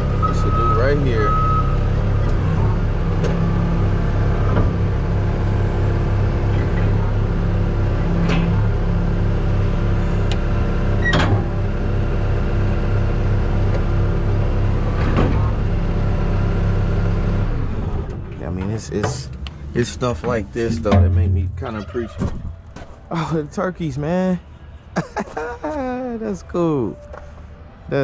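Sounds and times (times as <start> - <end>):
diesel truck engine running: 0.0 - 24.9.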